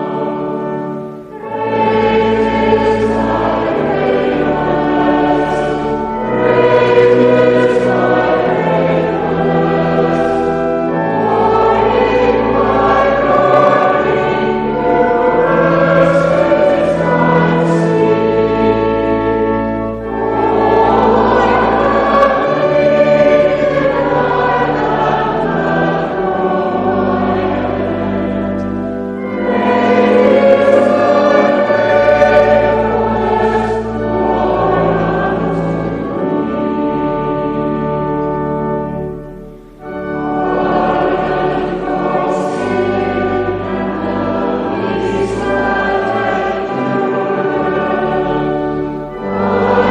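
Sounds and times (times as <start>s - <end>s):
choir singing a hymn: 0.0s - 49.9s
instrumental accompaniment: 0.0s - 49.9s.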